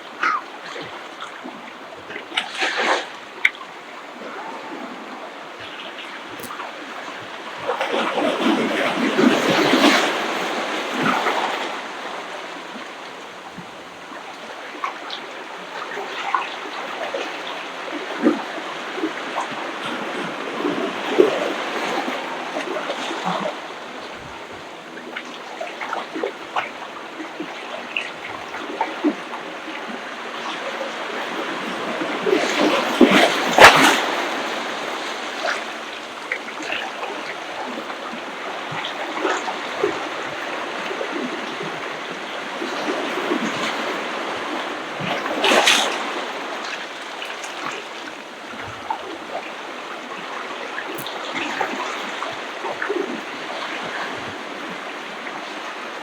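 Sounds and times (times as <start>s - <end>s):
small water splashes: 0.0s - 13.6s, 14.2s - 56.0s
ocean waves breaking: 0.0s - 56.0s.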